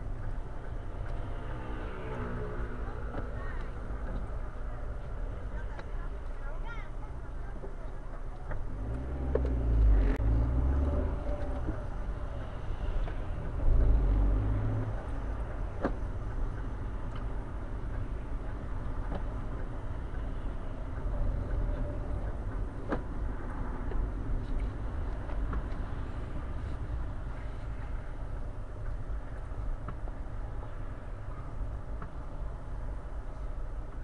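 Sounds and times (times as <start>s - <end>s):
engine and tyres rumbling: 0.0s - 34.0s.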